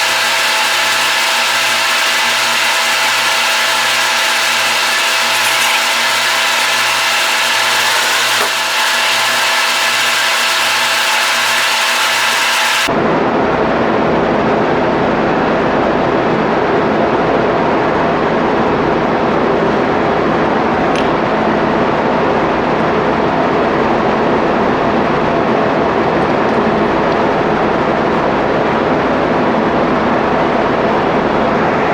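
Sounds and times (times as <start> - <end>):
engine room machinery hum: 0.0 - 31.9.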